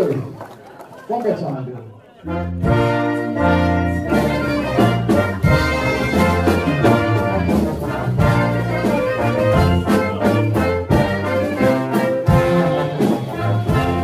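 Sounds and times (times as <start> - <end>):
big band jazz: 2.2 - 14.0
trumpets and trombones: 2.2 - 14.0
steady drum beat: 2.6 - 14.0.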